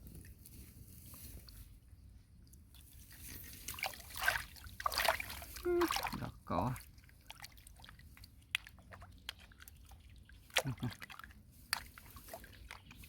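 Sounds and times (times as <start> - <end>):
water dripping and splashing: 2.5 - 13.0.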